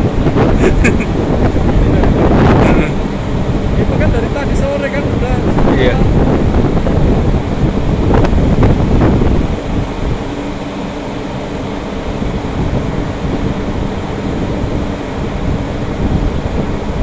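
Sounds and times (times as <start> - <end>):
ship engines rumbling: 0.0 - 17.0
wind and water hiss: 0.0 - 17.0.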